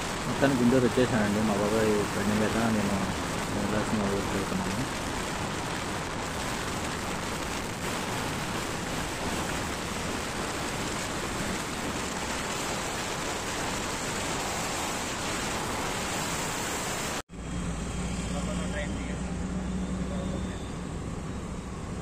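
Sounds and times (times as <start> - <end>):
wind and road noise from vehicle: 0.0 - 22.0.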